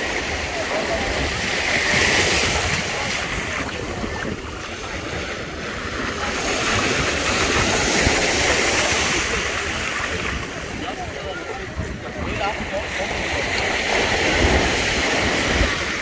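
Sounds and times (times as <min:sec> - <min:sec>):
waves washing up shore: 0:00.0 - 0:16.0.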